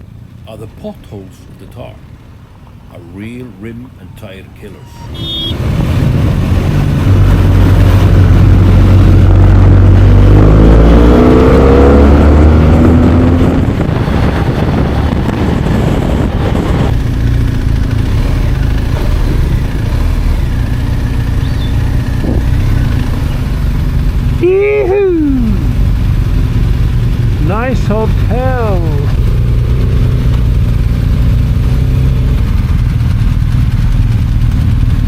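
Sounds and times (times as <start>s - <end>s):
motorcycle engine accelerating: 5.0s - 35.0s.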